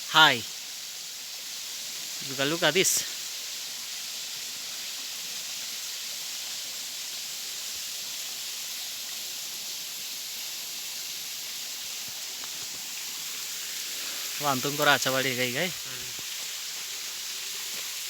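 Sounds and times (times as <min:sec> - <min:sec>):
waterfall hissing: 0:00.0 - 0:18.0.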